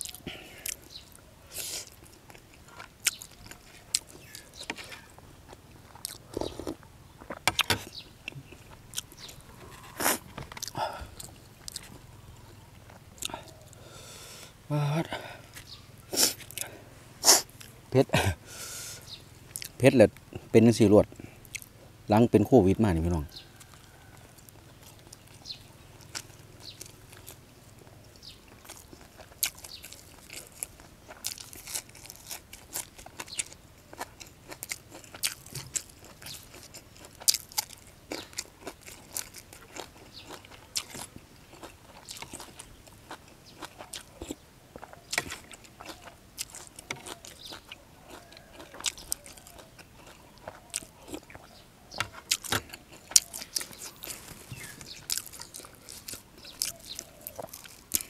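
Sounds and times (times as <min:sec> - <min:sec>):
person chewing with crunches: 0:00.0 - 0:22.0, 0:22.8 - 0:58.0.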